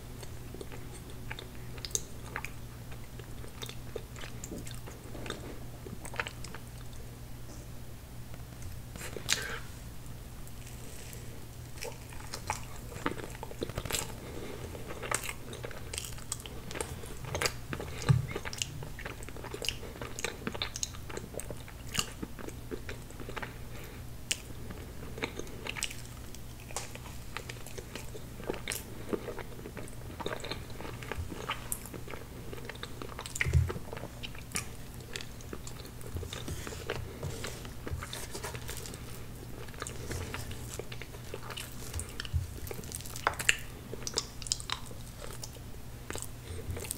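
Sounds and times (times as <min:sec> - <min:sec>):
faint low hum: 0:00.0 - 0:46.9.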